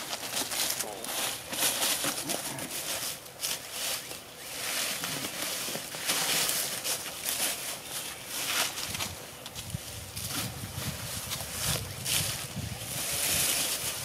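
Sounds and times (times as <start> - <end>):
footsteps through dry leaves: 0.0 - 14.0.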